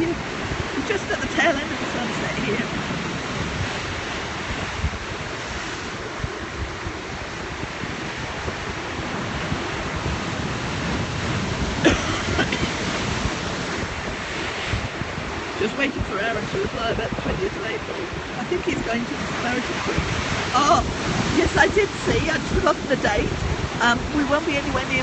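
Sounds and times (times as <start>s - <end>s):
sea surf washing on shore: 0.0s - 25.0s
wind buffeting microphone: 0.0s - 25.0s.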